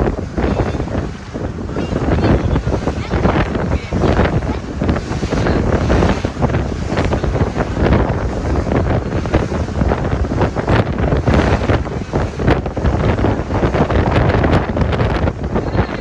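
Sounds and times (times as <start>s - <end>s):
gusty thumps and rumble: 0.0s - 16.0s
rushing water: 0.0s - 16.0s
wind buffeting the microphone: 0.0s - 16.0s.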